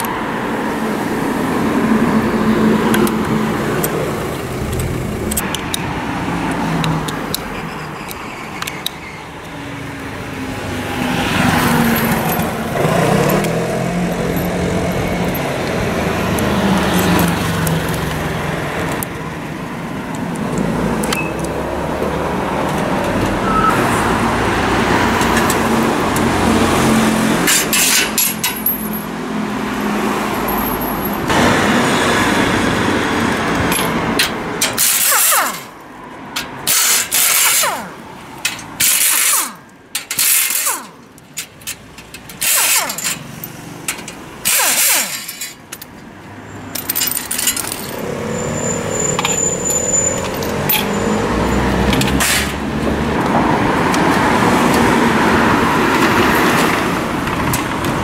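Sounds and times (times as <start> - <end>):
street traffic passing: 0.0 - 58.0.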